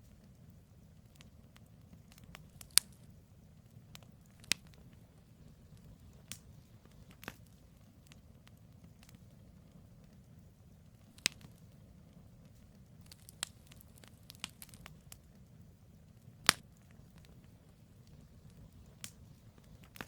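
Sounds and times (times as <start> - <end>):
campfire pops and crackles: 0.0 - 20.0
low steady rumble: 0.0 - 20.0.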